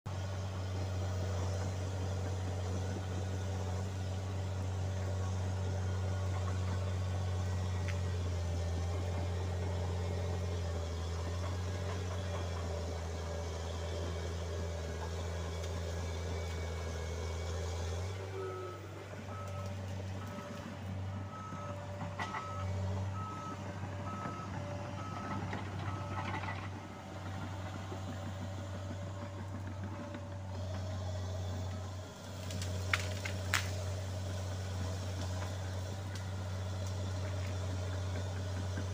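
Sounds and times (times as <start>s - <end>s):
dozer diesel engine droning: 0.1s - 38.9s.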